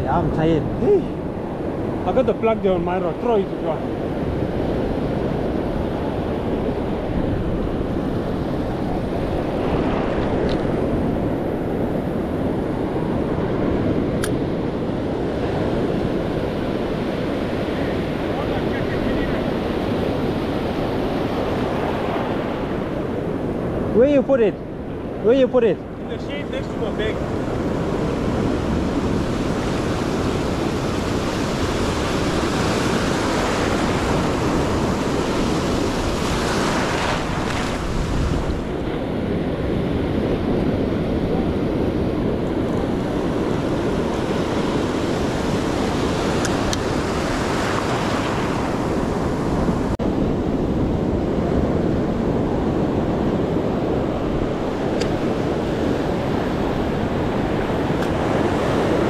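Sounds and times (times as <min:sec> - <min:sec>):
ocean surf breaking: 0:00.0 - 0:59.0
wind buffeting microphone: 0:00.0 - 0:59.0.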